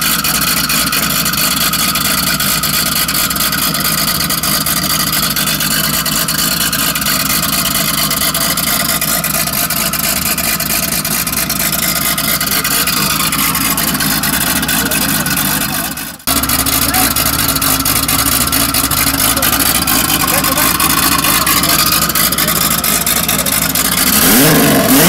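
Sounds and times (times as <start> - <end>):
car engine idling loudly: 0.0 - 25.0.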